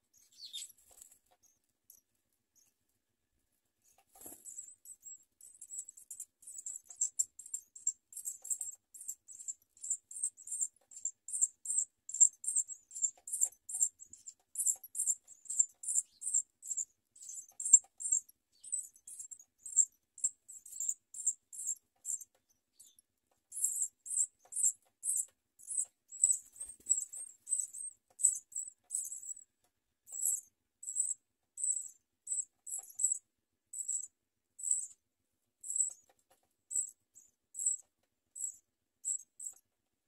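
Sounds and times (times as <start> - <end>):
nestling birds begging peeps: 0.2 - 1.6, 3.8 - 35.0, 35.6 - 39.6.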